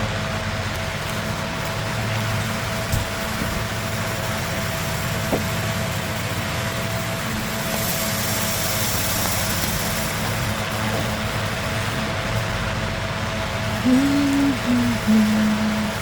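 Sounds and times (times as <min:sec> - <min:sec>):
machine hum with thin tone: 0:00.0 - 0:16.0.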